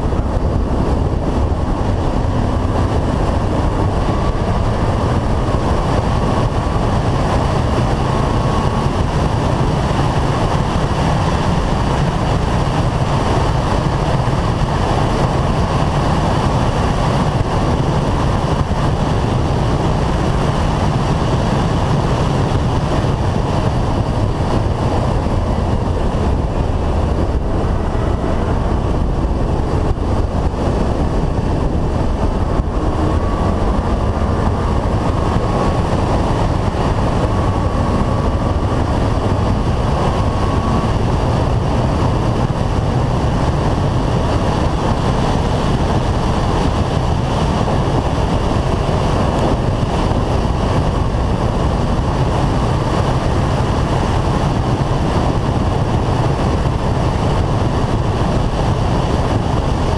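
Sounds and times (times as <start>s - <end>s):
road and engine rumble: 0.0s - 59.9s
wind rush and buffeting: 0.0s - 59.9s.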